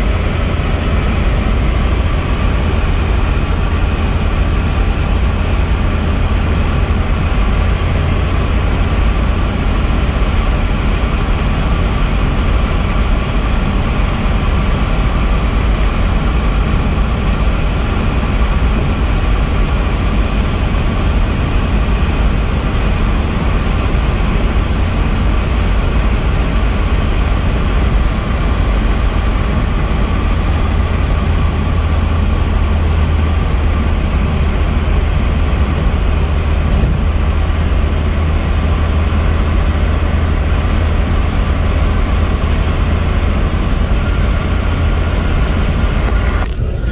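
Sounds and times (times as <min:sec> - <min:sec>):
car cabin road and engine rumble: 0:00.0 - 0:46.9.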